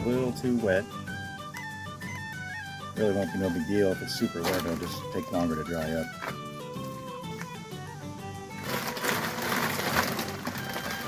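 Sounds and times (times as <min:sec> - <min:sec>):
music with plucked notes: 0:00.0 - 0:11.0.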